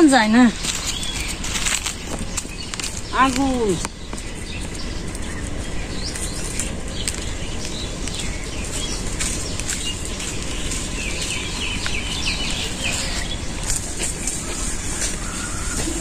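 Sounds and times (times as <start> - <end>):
small birds chirping: 0.0 - 16.0
steady rushing background: 0.1 - 16.0.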